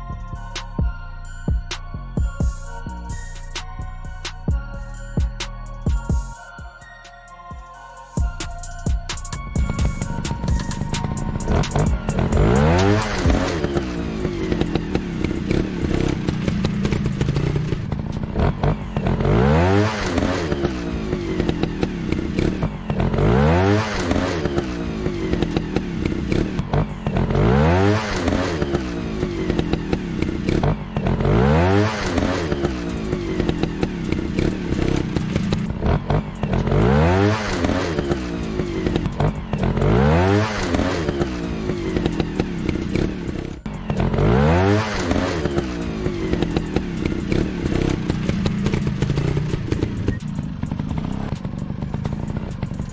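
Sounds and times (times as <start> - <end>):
dirt bike engine revving: 9.6 - 52.9.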